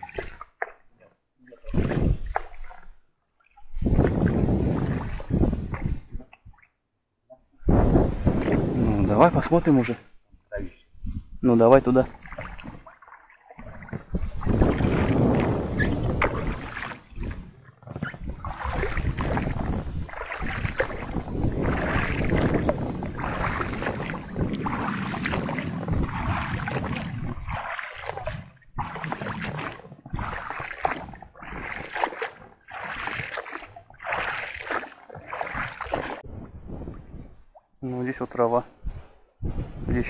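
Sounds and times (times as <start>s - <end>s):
oars splashing in water: 0.0s - 6.8s, 11.6s - 37.7s.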